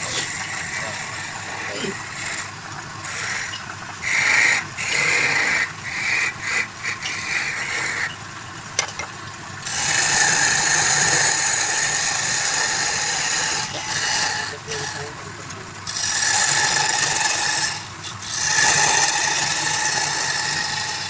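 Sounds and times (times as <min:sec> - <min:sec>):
lathe tool scraping wood: 0:00.0 - 0:08.2, 0:09.6 - 0:21.0.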